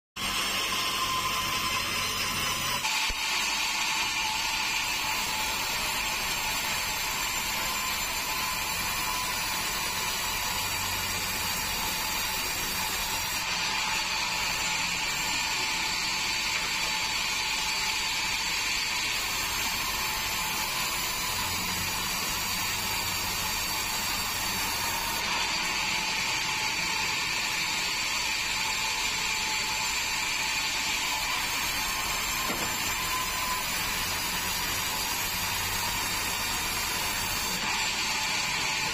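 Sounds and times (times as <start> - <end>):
band sawmill whining: 0.2 - 38.9.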